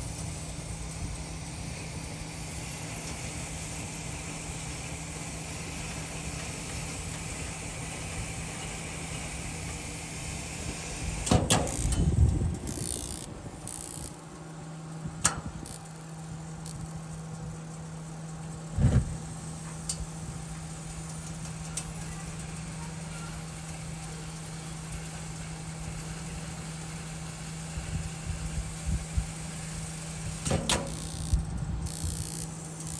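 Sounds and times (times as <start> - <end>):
pool heater humming: 0.0 - 32.9.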